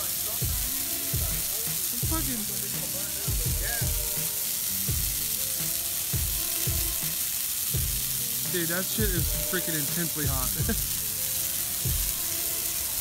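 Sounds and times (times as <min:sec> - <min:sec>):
bonfire crackling and hissing: 0:00.0 - 0:13.0
low fire rumbles: 0:00.0 - 0:13.0.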